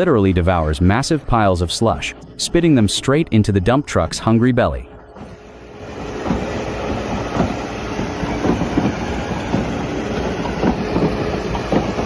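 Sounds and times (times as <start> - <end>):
heavy machinery rumbling: 0.0 - 12.0.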